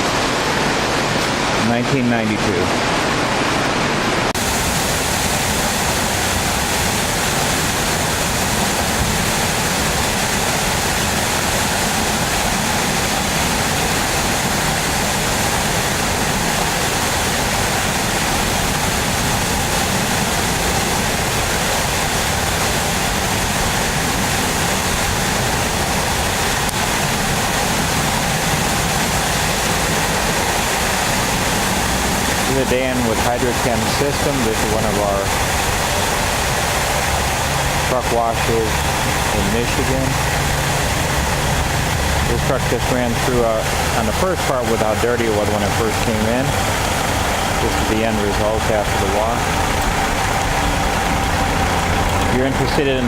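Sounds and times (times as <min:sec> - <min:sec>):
water jets spraying: 0:00.0 - 0:53.0.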